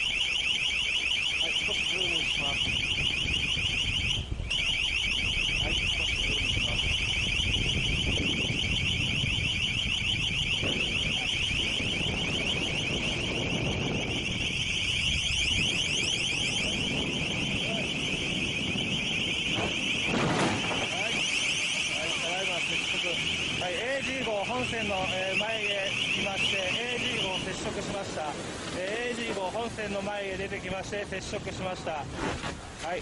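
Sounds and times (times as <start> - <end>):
loud high-pitched beeping tone: 0.0 - 27.7.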